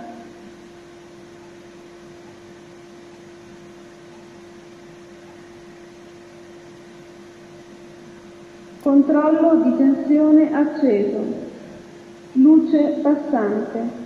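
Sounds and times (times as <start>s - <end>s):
steady machinery hum: 0.0s - 14.0s.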